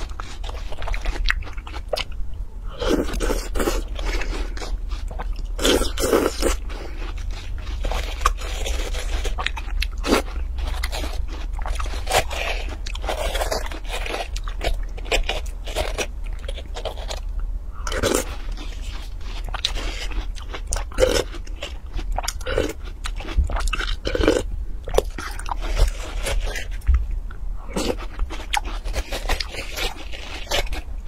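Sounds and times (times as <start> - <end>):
crunching watermelon: 0.0 - 31.0
low hum: 0.0 - 31.0.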